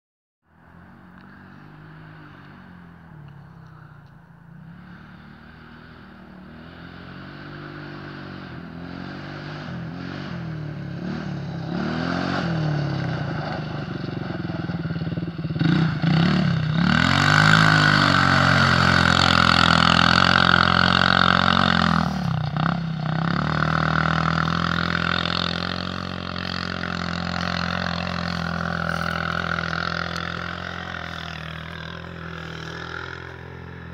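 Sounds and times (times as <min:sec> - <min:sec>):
quad engine revving: 0:04.5 - 0:33.9.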